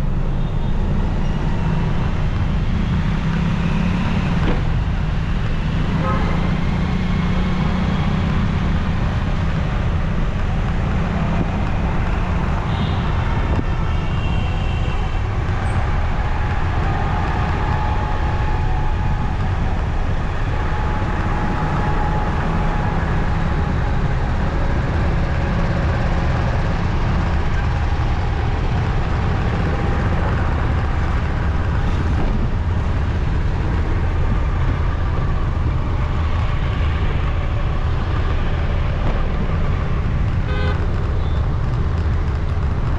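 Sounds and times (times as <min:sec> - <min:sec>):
faint higher traffic tones: 0:00.0 - 0:42.3
motorcycle engine rumble: 0:00.0 - 0:42.9.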